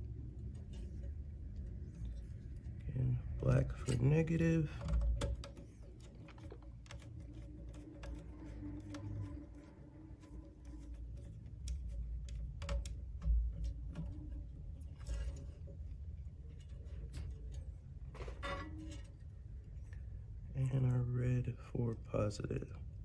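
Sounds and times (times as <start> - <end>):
wires rustling: 0.0 - 21.0.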